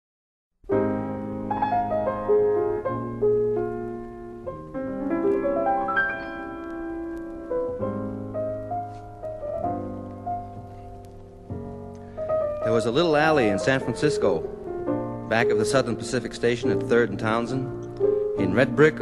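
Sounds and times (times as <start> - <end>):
piano playing slow chords: 0.7 - 19.0.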